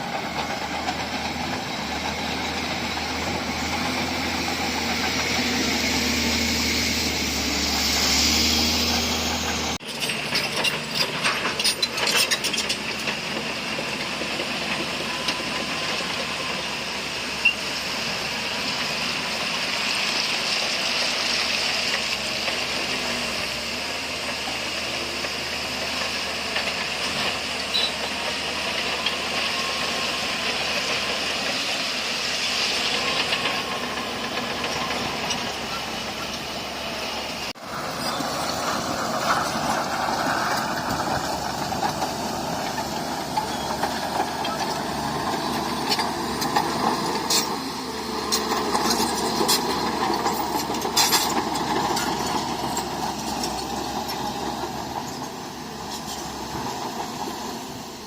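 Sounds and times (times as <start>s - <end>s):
diesel construction machinery running: 0.0s - 58.0s.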